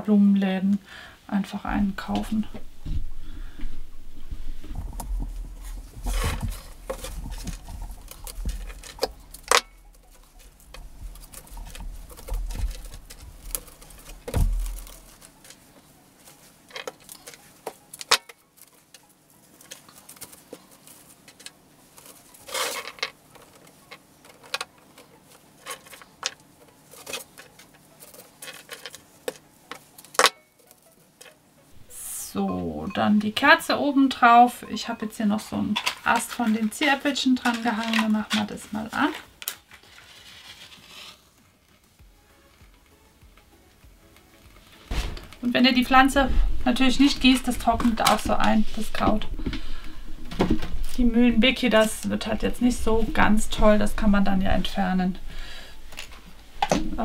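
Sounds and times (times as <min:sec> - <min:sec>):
twigs and leaves rustling: 0:01.6 - 0:57.0.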